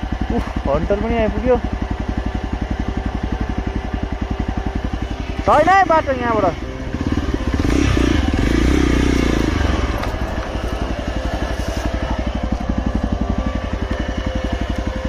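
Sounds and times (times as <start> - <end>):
motorcycle engine revving and chugging: 0.0 - 15.0.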